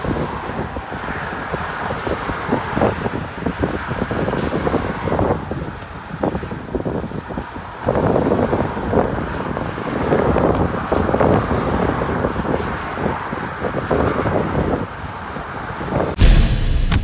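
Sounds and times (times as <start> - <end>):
cars driving past: 0.0 - 16.2
wind buffeting microphone: 0.0 - 16.3.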